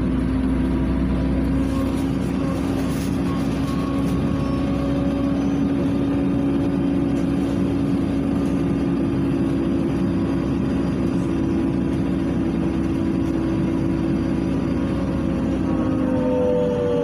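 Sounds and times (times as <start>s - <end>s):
bus engine humming: 0.0s - 17.0s
road and tyre noise: 0.0s - 17.0s.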